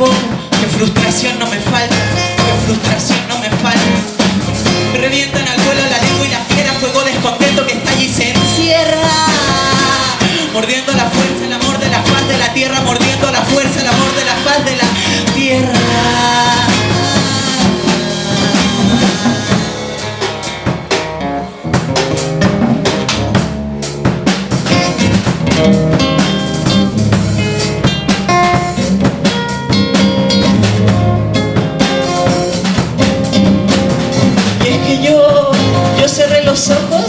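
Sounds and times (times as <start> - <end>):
drum kit playing: 0.0 - 37.0.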